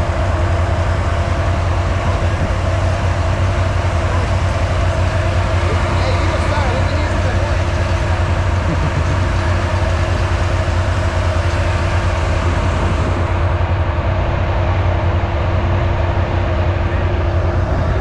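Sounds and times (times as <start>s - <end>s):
atv engine idling: 0.0s - 18.0s.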